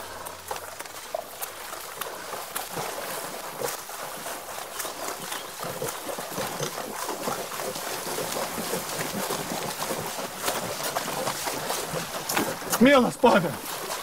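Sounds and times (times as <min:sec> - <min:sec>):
hooves and wheels splashing: 0:00.0 - 0:14.0.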